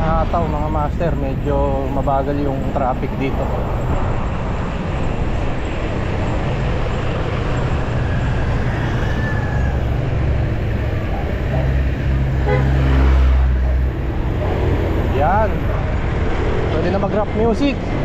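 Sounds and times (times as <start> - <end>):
vehicle engines rumbling: 0.0 - 18.0.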